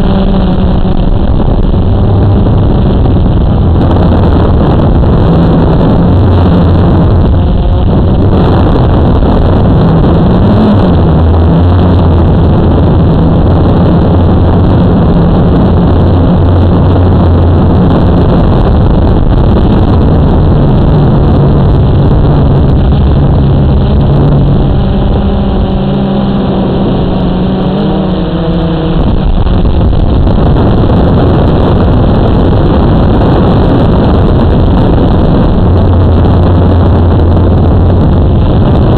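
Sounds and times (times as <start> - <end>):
loud rushing noise: 0.0 - 38.9
quadcopter motors humming: 0.0 - 38.9.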